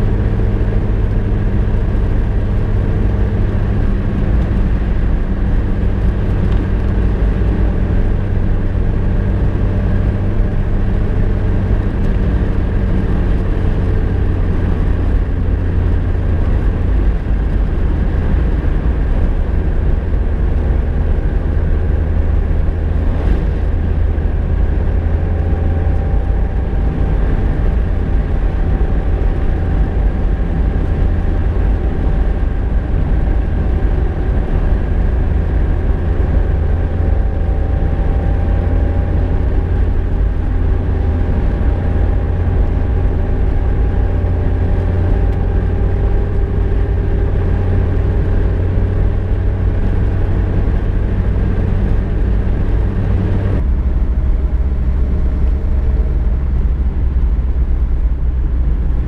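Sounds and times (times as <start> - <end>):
car engine drone: 0.0 - 59.0
road rumble: 0.0 - 59.0.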